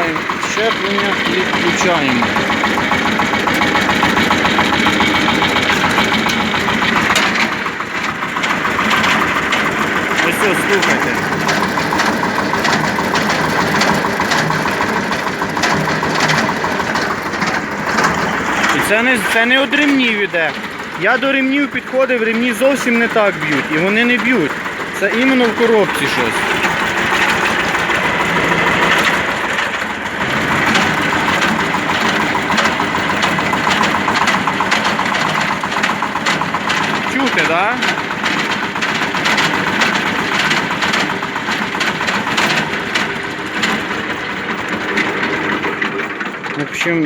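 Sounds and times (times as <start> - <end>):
rattling knock: 0.0 - 46.8
tractor engine running: 0.0 - 47.0.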